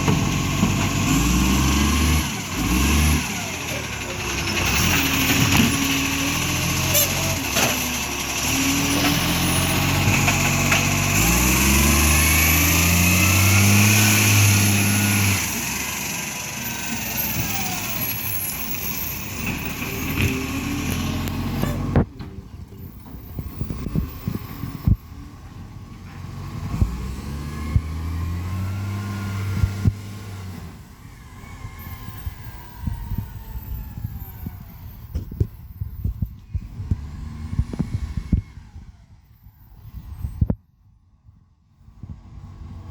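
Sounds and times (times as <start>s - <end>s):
diesel truck accelerating: 0.0s - 40.8s, 41.4s - 42.9s.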